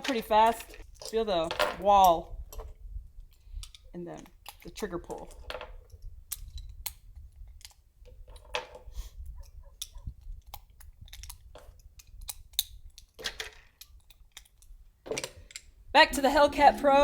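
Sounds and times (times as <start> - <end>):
handgun handling clicks and rustles: 0.0 - 15.8.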